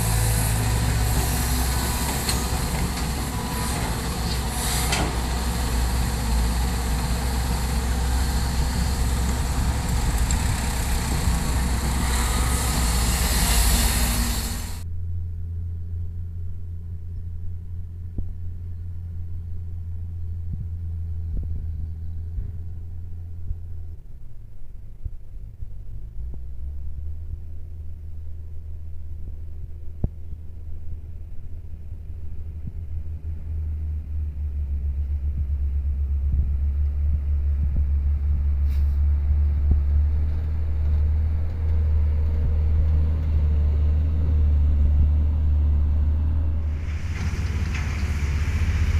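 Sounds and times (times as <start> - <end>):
diesel truck engine rumbling: 0.0 - 48.9.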